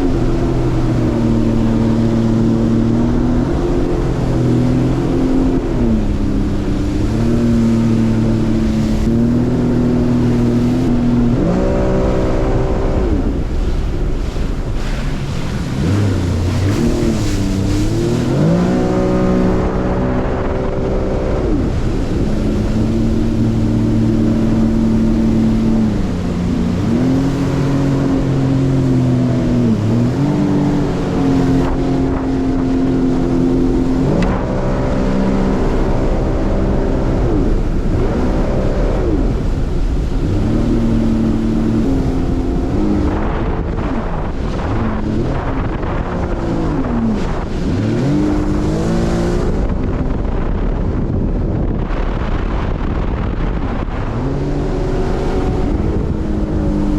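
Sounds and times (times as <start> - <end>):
boat engine running hard: 0.0 - 56.9
rush of wind and water: 0.0 - 56.9.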